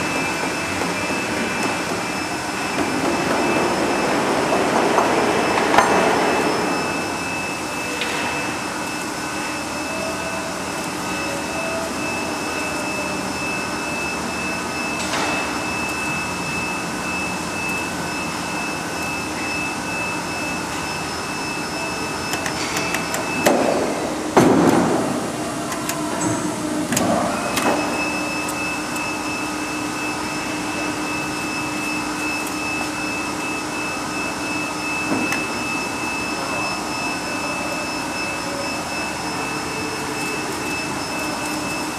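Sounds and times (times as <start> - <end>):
high machine whine: 0.0 - 41.9
paper cutting machine humming: 0.0 - 41.9.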